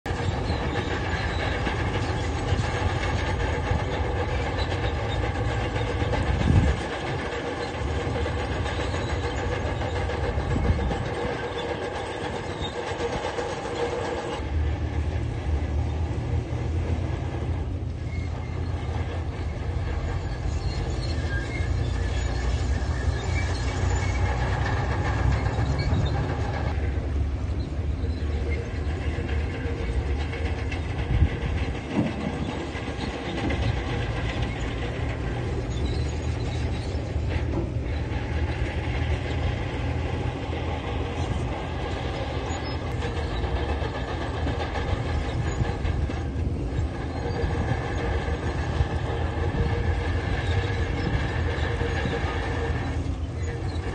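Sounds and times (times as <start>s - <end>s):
diesel engine running: 0.0s - 53.9s
metal tracks clanking: 0.0s - 53.9s.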